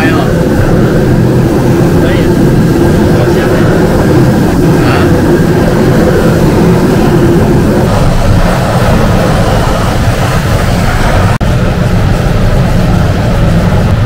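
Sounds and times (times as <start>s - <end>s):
butane torch flame rushing: 0.0s - 14.0s.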